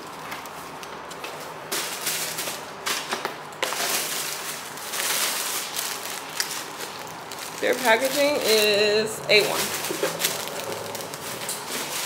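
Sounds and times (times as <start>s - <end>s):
paper and cardboard rustling: 0.0s - 12.0s.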